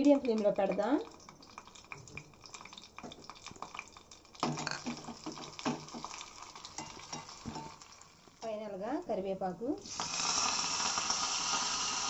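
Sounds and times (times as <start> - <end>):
oil crackling with frying spices: 0.0 - 12.0.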